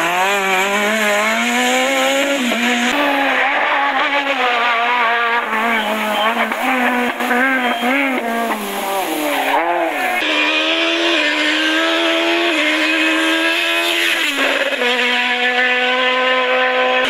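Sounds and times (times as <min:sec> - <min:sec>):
rally car engines at high revs: 0:00.0 - 0:17.0.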